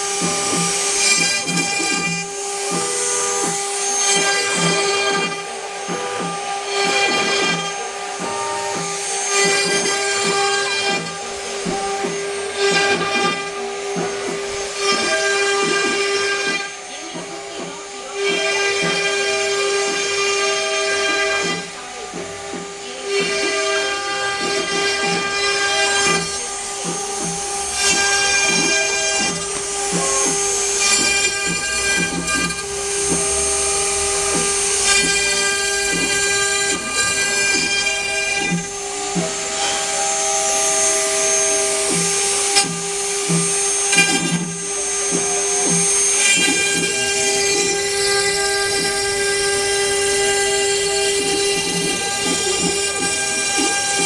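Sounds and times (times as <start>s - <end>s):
constant tone: 0.0s - 54.0s
stepper motors whining: 0.0s - 54.0s.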